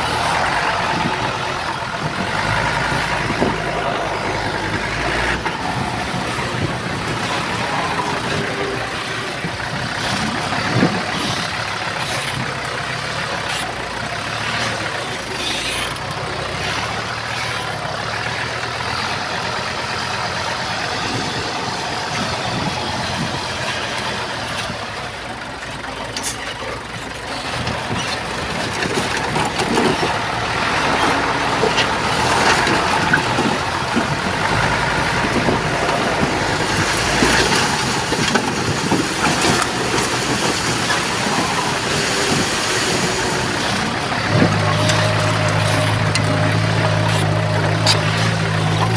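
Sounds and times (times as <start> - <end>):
earthmoving machinery diesel engines: 0.0 - 48.9.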